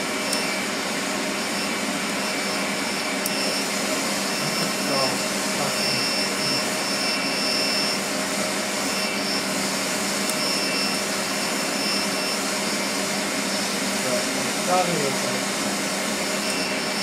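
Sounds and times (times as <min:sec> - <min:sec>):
faint high whine: 0:00.0 - 0:15.5, 0:16.2 - 0:17.0.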